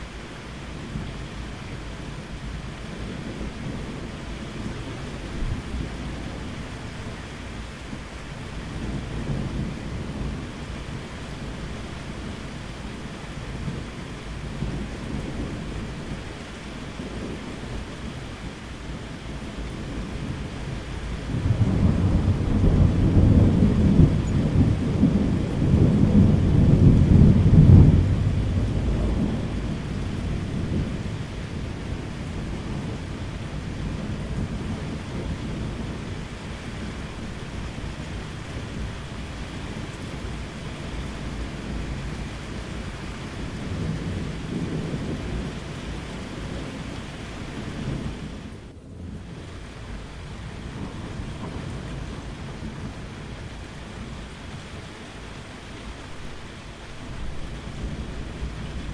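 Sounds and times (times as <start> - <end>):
rain falling: 0.0 - 58.9
thunder rumbling: 0.6 - 58.9.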